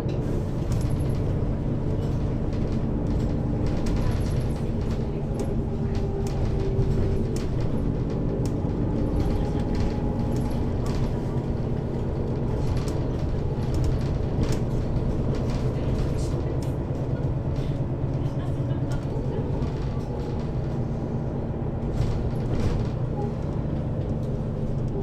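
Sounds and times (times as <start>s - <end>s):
bus engine running: 0.0s - 25.0s
small rattles and clicks: 0.7s - 20.7s.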